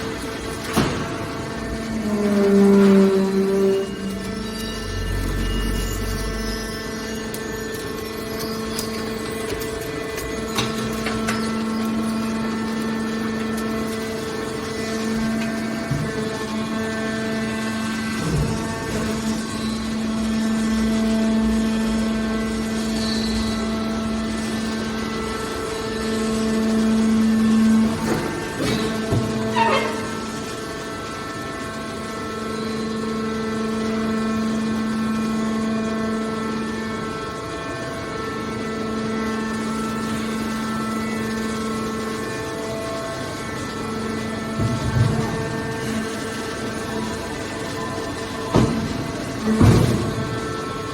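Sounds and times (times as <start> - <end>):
hydraulic baler humming: 0.0 - 50.9.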